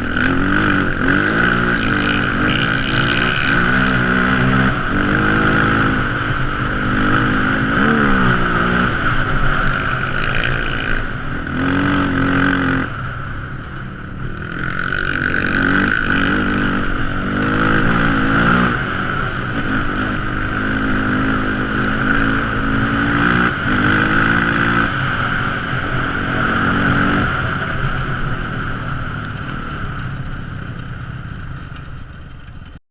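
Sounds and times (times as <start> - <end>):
atv engine revving: 0.0 - 32.7
steady high whine: 0.0 - 32.8.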